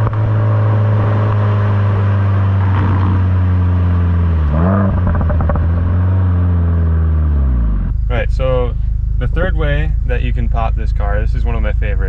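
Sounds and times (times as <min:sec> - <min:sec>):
engine rev blip: 0:00.0 - 0:11.0
car engine running: 0:00.0 - 0:12.0
exhaust crackles: 0:00.0 - 0:12.0.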